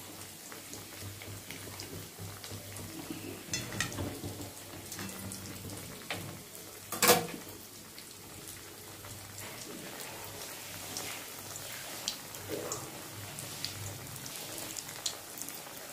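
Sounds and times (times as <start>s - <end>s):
fish frying in hot oil: 0.0s - 15.9s.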